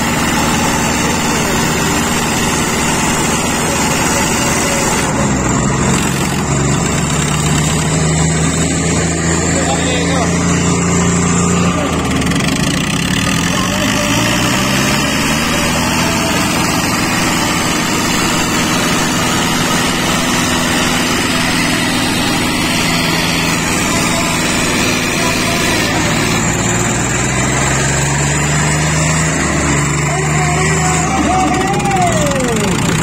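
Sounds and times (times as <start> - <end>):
diesel tractor engines labouring: 0.0 - 33.0.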